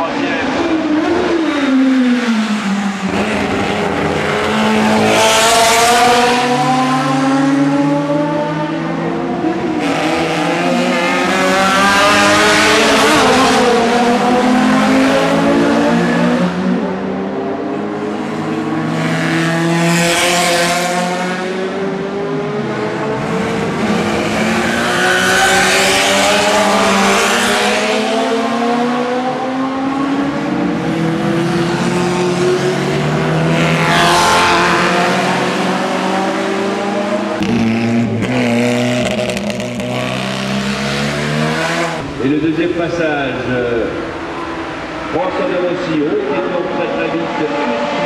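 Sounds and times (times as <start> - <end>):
racing cars passing at speed: 0.0 - 48.0.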